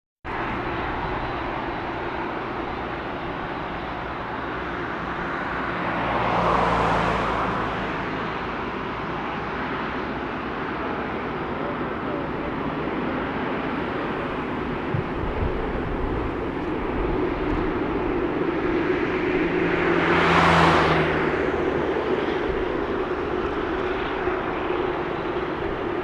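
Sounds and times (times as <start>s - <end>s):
jet engines rumbling: 0.3s - 26.0s.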